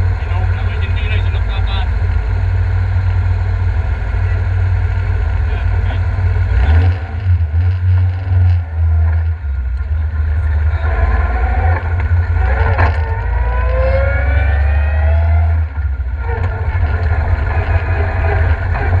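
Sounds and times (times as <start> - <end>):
car engine drone: 0.0 - 19.0
rising whine: 0.0 - 19.0.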